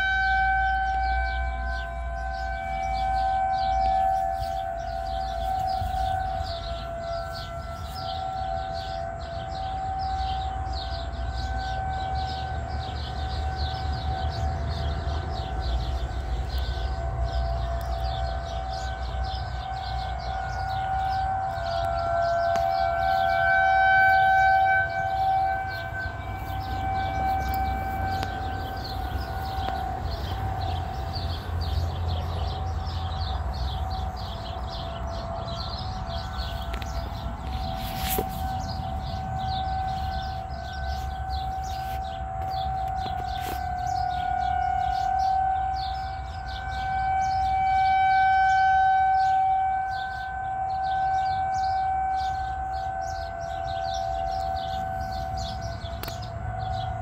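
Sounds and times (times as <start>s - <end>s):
warning siren wailing: 0.0s - 57.0s.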